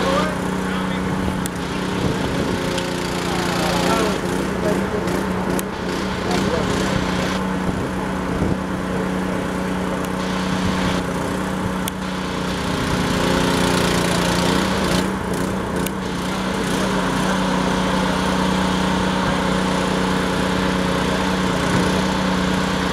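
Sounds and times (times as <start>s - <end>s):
engine running steadily: 0.0s - 22.9s.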